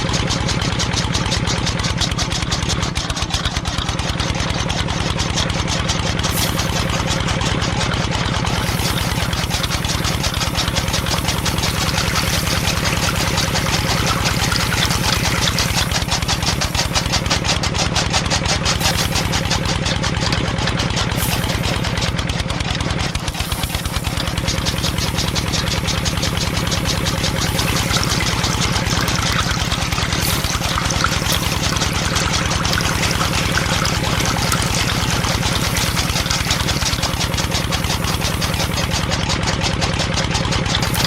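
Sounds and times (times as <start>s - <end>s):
small engine idling: 0.0s - 41.0s.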